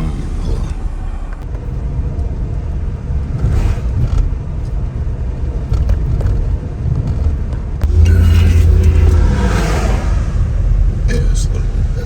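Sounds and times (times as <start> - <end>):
car cabin engine and road drone: 0.0 - 12.0.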